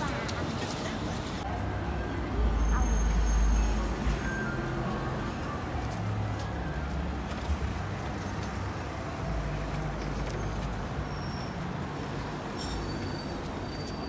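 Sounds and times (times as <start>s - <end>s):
rumble of passing cars: 0.0s - 14.0s.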